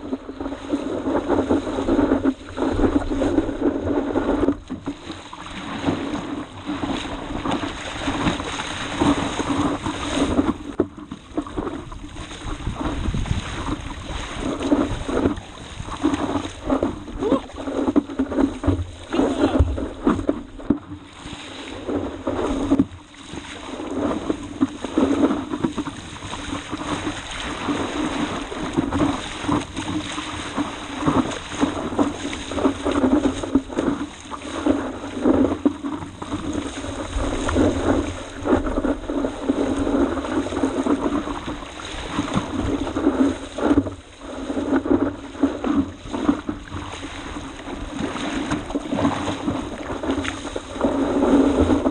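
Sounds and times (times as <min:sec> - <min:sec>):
sea water rushing and splashing: 0:00.0 - 0:51.9.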